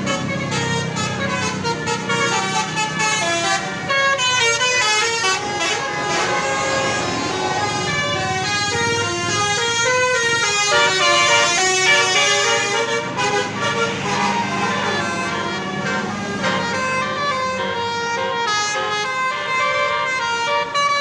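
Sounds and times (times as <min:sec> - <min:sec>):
multi-tone bus horn tune: 0:00.0 - 0:21.0.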